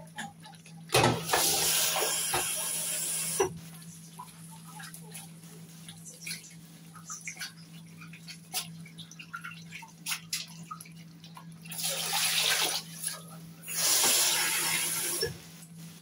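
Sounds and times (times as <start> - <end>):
tap water running: 0.0 - 15.7.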